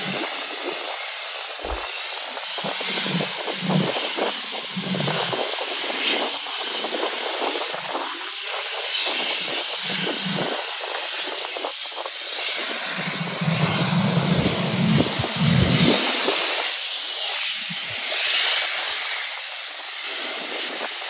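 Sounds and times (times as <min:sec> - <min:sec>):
wind rumbling on microphone: 0:00.0 - 0:19.3
jet engines roaring: 0:00.0 - 0:19.4.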